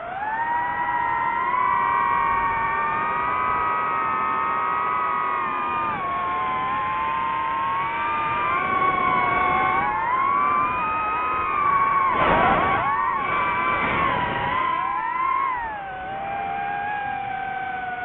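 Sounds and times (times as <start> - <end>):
drone propellers whining: 0.0 - 18.0.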